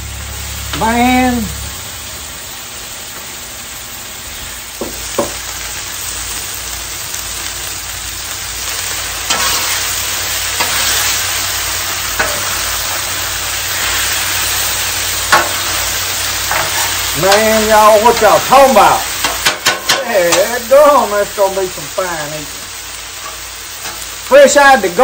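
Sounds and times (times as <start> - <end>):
vegetables sizzling on griddle: 0.0 - 25.0.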